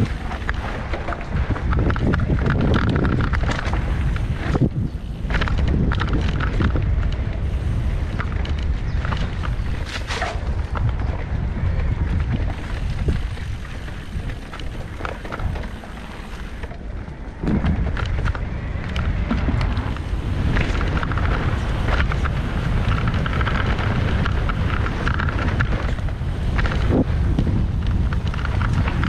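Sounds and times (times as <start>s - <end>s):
bike rattles and knocks: 0.0s - 29.0s
bike tyre rumble: 0.0s - 29.0s
wind buffeting microphone: 0.0s - 29.0s.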